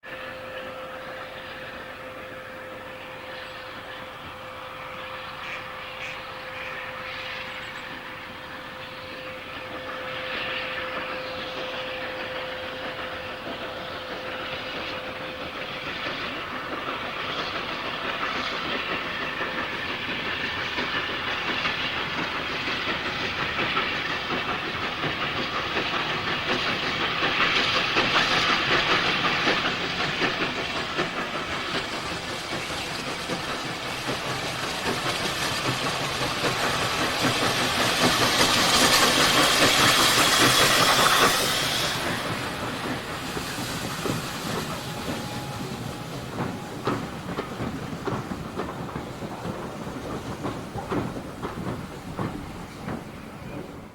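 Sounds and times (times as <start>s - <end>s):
steam locomotive exhaust beats: 0.0s - 53.9s
steam hiss: 0.1s - 53.9s.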